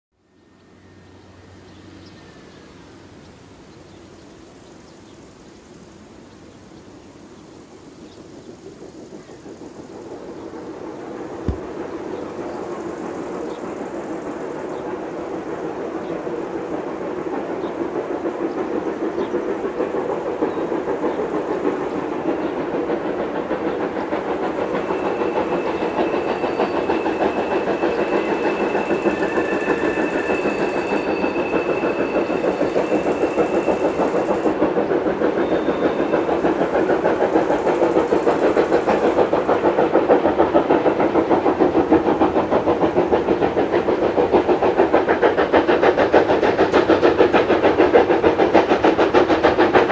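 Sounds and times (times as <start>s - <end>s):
steam locomotive exhaust beating: 0.4s - 49.9s.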